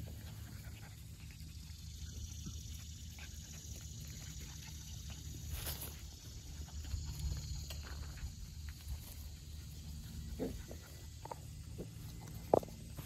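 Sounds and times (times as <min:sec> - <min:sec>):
puppies grunting and snuffling: 0:00.0 - 0:13.0.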